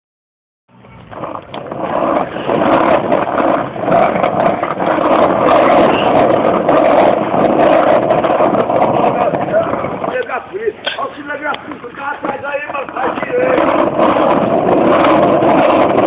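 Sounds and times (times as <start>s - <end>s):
skateboard wheels rolling on pavement: 0.7s - 16.0s.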